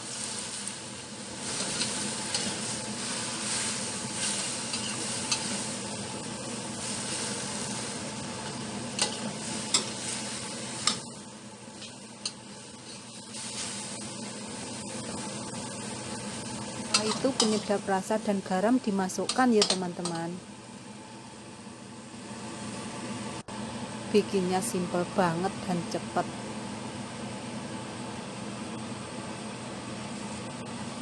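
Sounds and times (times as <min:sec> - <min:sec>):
vegetables sizzling in a wok: 0:00.0 - 0:31.0.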